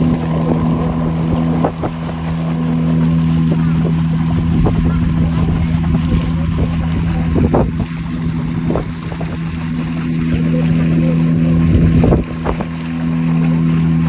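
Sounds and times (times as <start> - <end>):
hull thudding on water: 0.0 - 14.0
motorboat engine running: 0.0 - 14.0.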